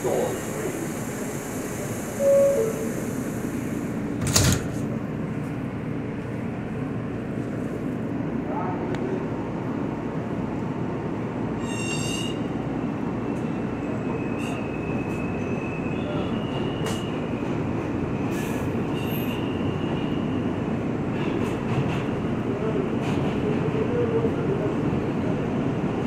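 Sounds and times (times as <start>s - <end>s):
subway train running rumble: 0.0s - 26.0s.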